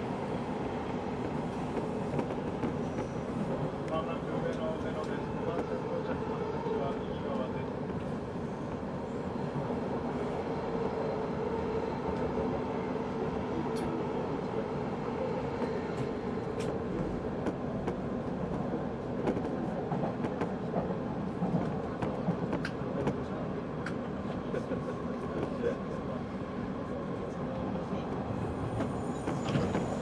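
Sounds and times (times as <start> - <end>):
train rumble heard on board: 0.0 - 30.0.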